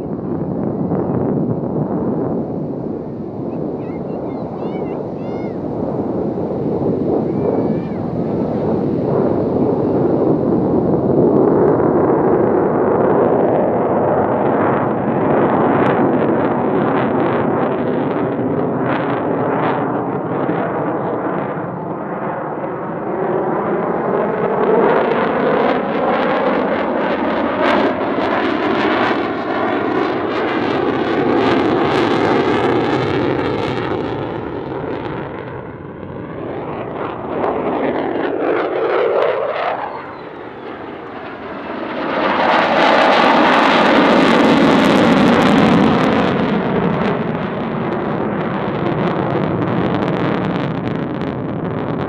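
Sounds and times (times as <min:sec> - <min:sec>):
jet roar: 0:00.0 - 0:52.0.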